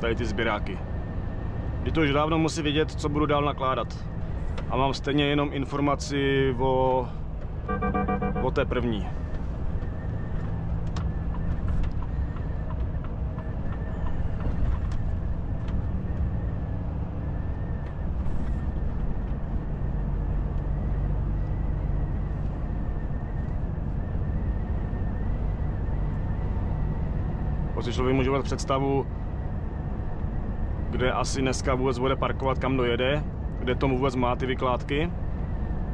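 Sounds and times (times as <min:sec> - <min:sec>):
truck diesel engine hum: 0:00.0 - 0:35.9.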